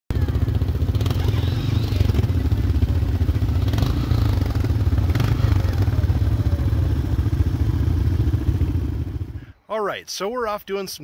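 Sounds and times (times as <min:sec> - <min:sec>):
atv rattling over bumps: 0:00.1 - 0:09.4
atv engine running: 0:00.1 - 0:09.6.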